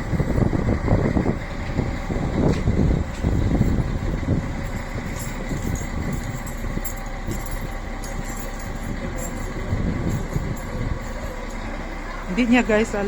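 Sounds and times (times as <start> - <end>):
train standing at platform: 0.0 - 13.0
wind buffeting microphone: 0.0 - 13.0.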